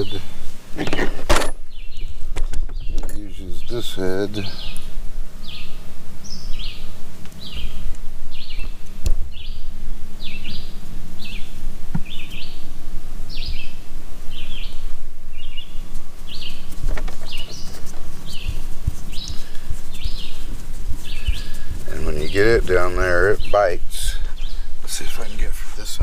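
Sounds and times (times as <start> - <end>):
bird chirping: 0.0 - 12.7, 13.3 - 25.9.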